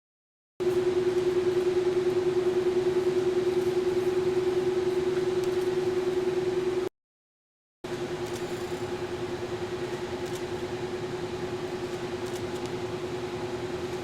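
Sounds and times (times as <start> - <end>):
steady machine hum: 0.6 - 6.9, 7.9 - 14.0.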